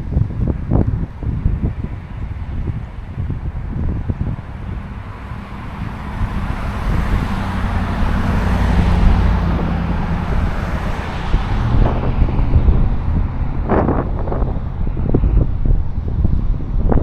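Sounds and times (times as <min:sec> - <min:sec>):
vehicle passing on road: 0:00.0 - 0:17.0
wind rumbling on microphone: 0:00.0 - 0:17.0.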